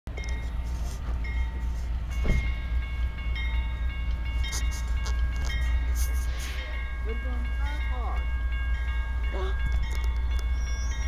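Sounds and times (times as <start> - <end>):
locomotive low rumble: 0.1 - 11.0
thin high ringing tones: 0.2 - 11.0.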